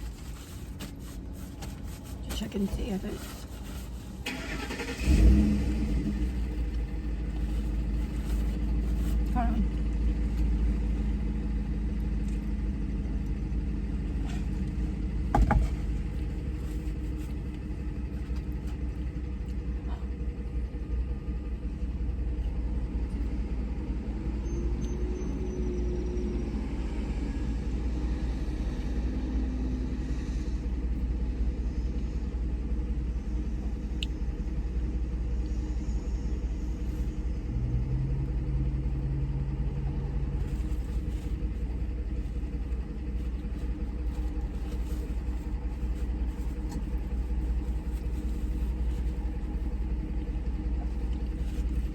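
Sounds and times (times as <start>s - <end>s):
car engine rumble inside cabin: 0.0s - 51.9s.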